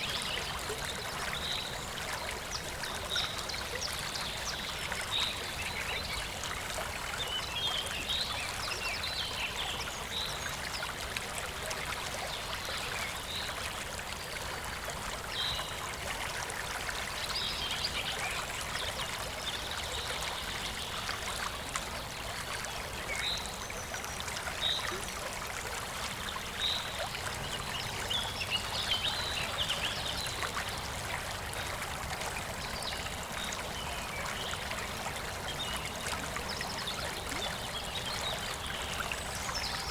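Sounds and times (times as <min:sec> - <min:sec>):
river water flowing and babbling: 0:00.0 - 0:39.9.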